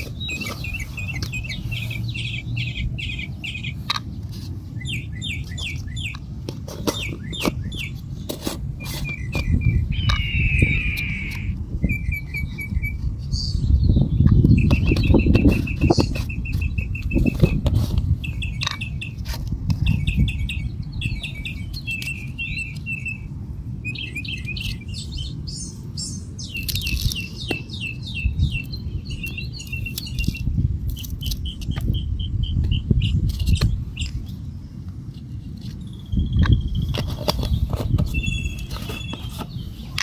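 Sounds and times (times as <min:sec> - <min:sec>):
small birds trilling: 0:00.0 - 0:40.0.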